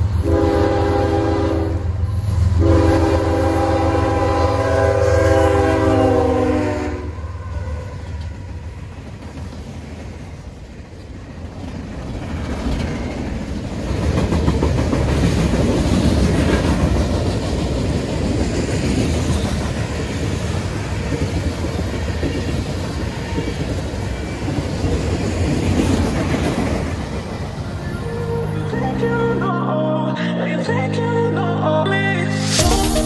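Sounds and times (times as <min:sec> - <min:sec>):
freight train rumbling: 0:00.0 - 0:29.5.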